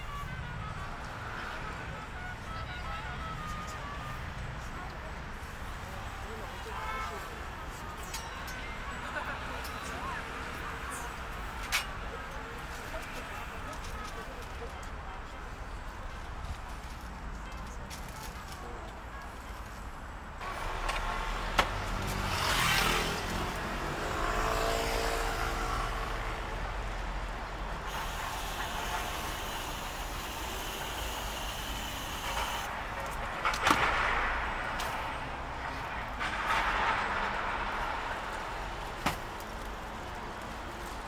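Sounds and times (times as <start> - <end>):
vehicles passing by: 0.0 - 41.0.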